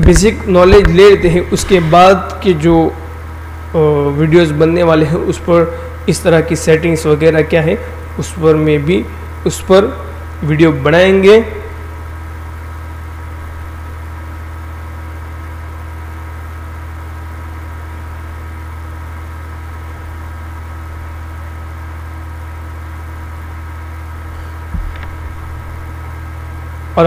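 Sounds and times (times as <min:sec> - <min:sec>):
low hum with higher tones: 0:00.0 - 0:27.0.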